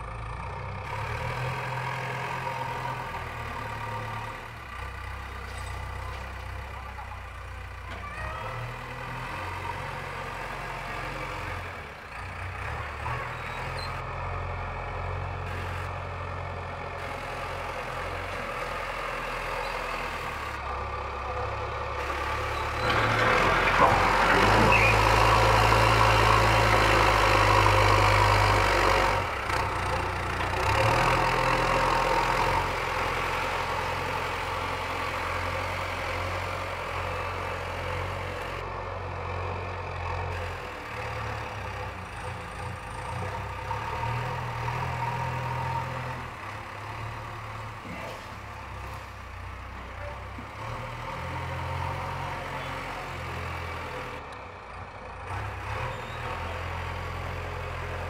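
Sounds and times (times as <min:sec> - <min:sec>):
diesel engine running and revving: 0:00.0 - 0:58.0.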